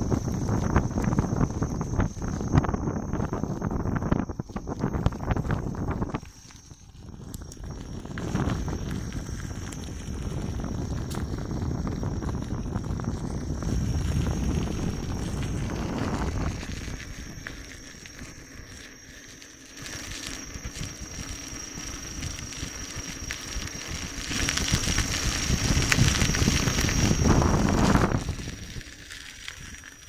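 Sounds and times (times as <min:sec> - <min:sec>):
wind rushing over microphone: 0:00.0 - 0:19.0, 0:19.7 - 0:30.0
tyre rolling over gravel: 0:00.0 - 0:30.0.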